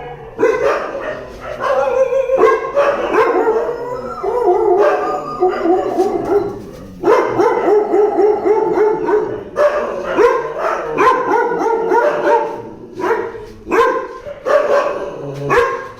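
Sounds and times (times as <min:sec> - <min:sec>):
dogs yelping and barking: 0:00.0 - 0:15.9.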